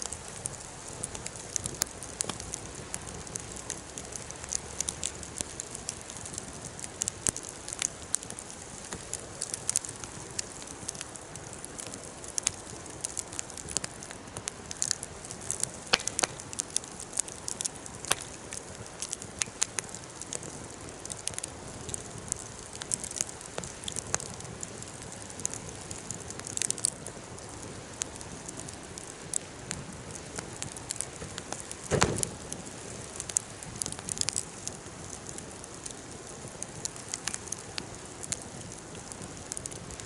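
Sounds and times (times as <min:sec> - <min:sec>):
campfire crackling and popping: 0:00.0 - 0:40.0
low hiss of burning: 0:00.0 - 0:40.0.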